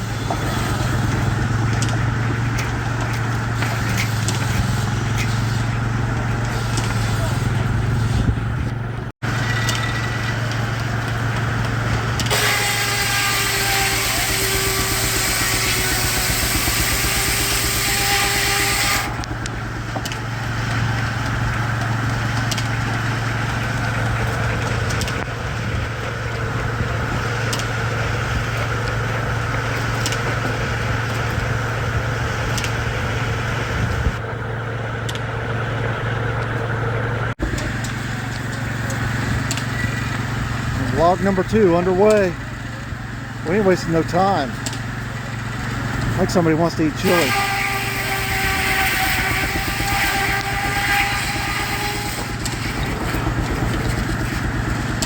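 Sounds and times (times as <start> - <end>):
saw blade whining through log: 0.0 - 55.0
sawmill running: 0.0 - 55.0.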